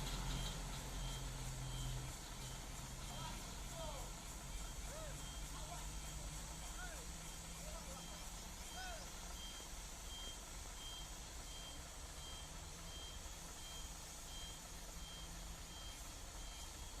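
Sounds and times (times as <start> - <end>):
reversing alarm beeping: 0.1 - 17.0.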